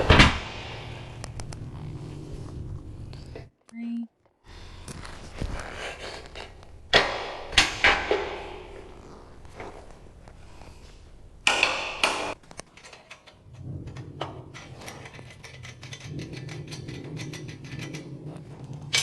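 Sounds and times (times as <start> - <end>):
steady low hum: 0.0 - 3.6, 4.5 - 19.0.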